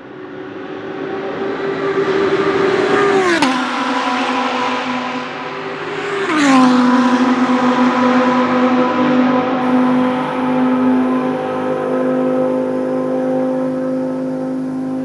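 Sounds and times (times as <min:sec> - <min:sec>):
racing car passing at full throttle: 0:00.1 - 0:15.0.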